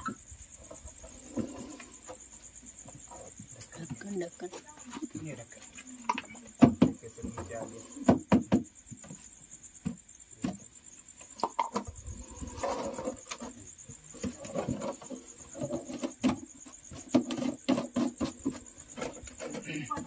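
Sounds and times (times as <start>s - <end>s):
cricket chirping trill: 0.0s - 20.0s.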